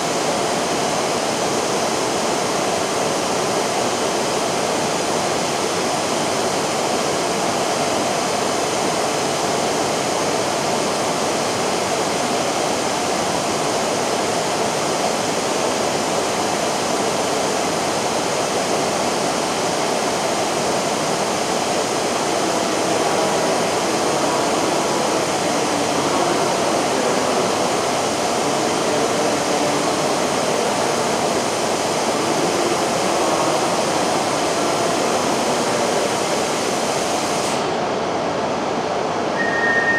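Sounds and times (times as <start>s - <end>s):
train equipment hiss: 0.0s - 37.8s.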